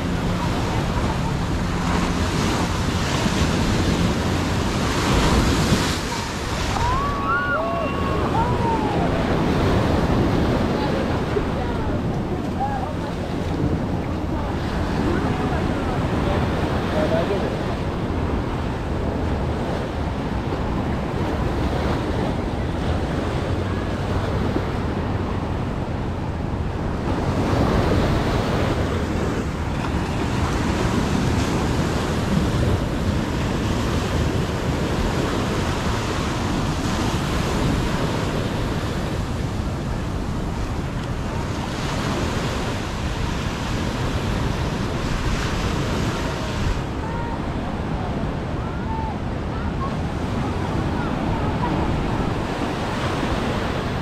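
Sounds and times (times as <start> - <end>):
ocean surf breaking on beach: 0.0 - 54.0
wind rumbling on microphone: 0.0 - 54.0.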